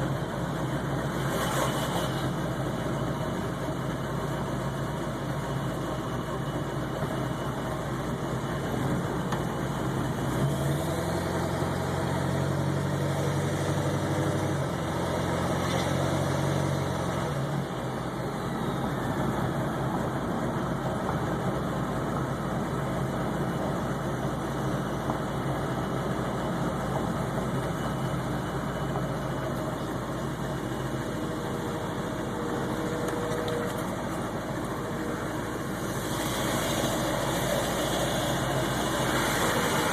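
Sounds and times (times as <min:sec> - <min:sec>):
diesel engine idling roughly: 0:00.0 - 0:39.9.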